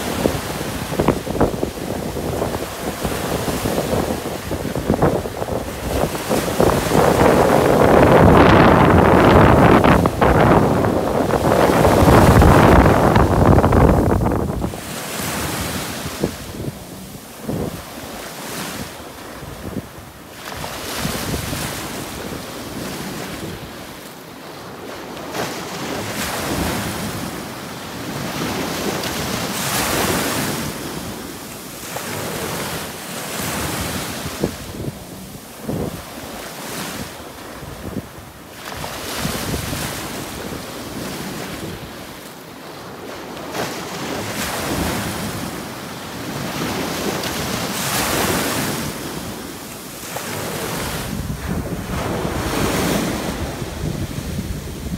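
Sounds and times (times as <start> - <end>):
wind buffeting microphone: 0.0 - 23.9, 31.9 - 54.9
waves washing on sandy shore: 0.0 - 54.9.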